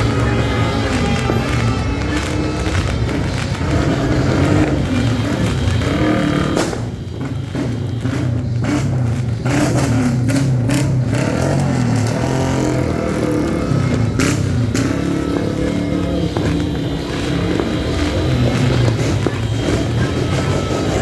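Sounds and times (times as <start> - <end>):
engines revving: 0.0 - 21.0
firecracker bangs: 0.0 - 21.0.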